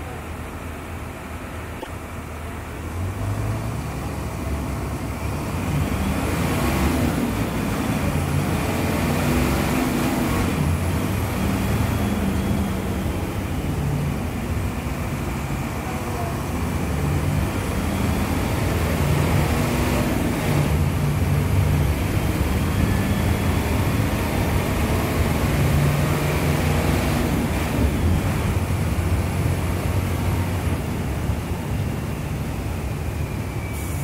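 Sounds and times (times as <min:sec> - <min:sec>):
bus diesel engine revving: 0:00.0 - 0:34.0
road traffic passing: 0:00.0 - 0:34.0.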